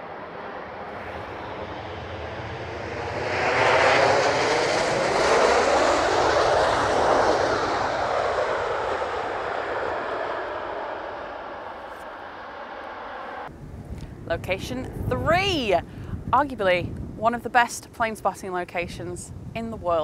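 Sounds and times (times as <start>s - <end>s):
jet engine noise: 0.0s - 20.0s.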